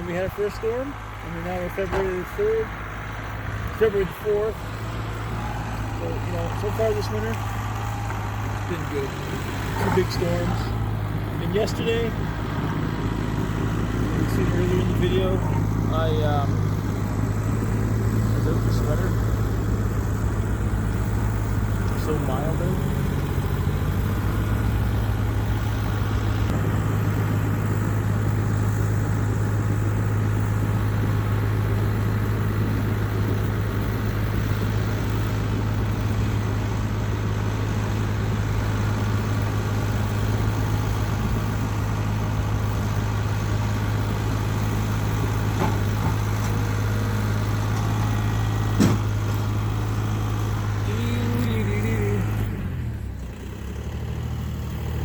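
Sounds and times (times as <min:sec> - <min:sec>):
engine running and winding down: 0:00.0 - 0:55.0.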